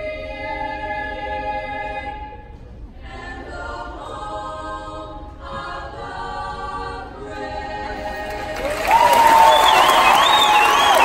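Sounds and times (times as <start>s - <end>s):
children's choir singing: 0.0s - 11.0s.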